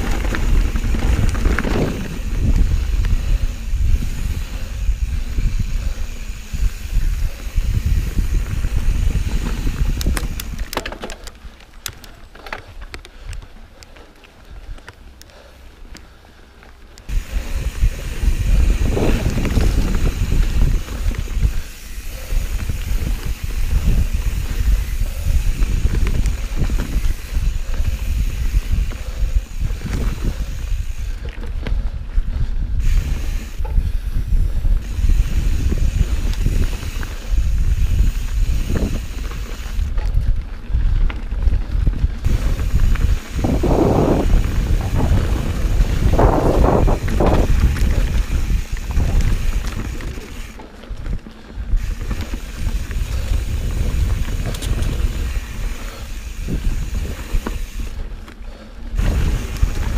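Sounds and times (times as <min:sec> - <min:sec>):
wind buffeting microphone: 0:00.0 - 0:13.6, 0:17.1 - 0:59.9
bike knocking and rattling: 0:00.0 - 0:59.9.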